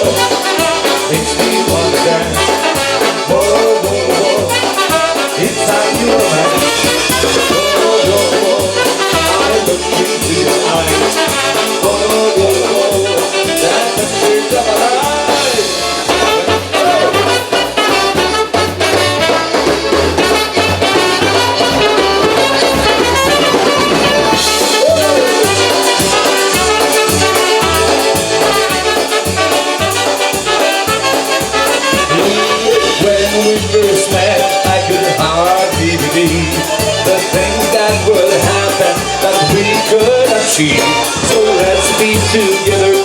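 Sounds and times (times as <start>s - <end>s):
horns: 0.0s - 43.0s
polka band playing: 0.0s - 43.0s
steady bass beat: 0.0s - 43.0s.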